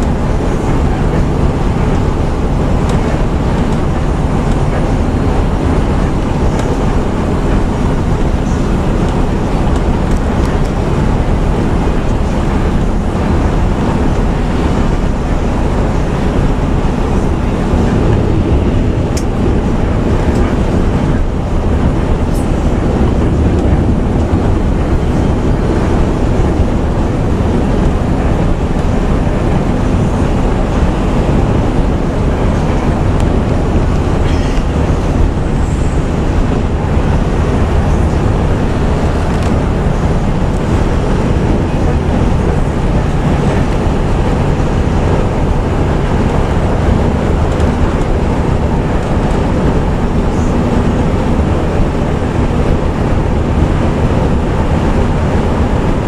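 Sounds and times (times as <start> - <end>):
bus engine and exhaust drone: 0.0 - 56.0
road and tyre noise: 0.0 - 56.0.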